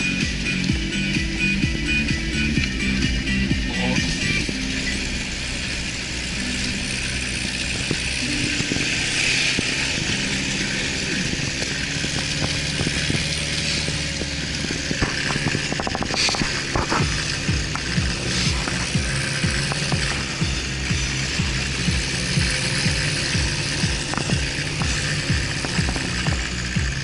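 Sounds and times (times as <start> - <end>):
off-road vehicle engine running: 0.0 - 27.0
sharp rattling clicks: 4.3 - 27.0.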